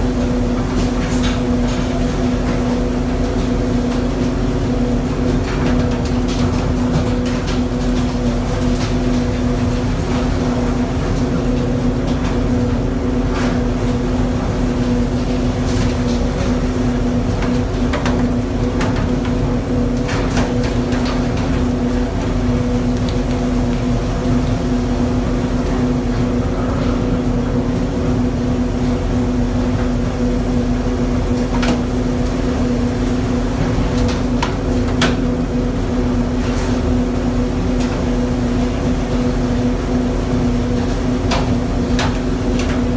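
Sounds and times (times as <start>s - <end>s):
boat engine drone: 7.6s - 42.9s.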